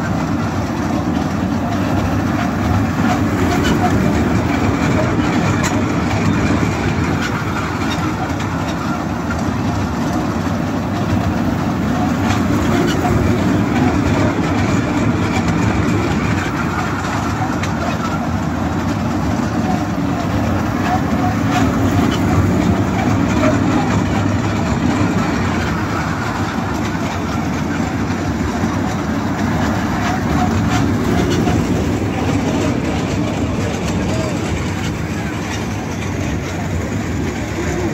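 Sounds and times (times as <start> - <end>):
crowd voices: 0.0 - 37.9
small train rumbling on rails: 0.0 - 37.9.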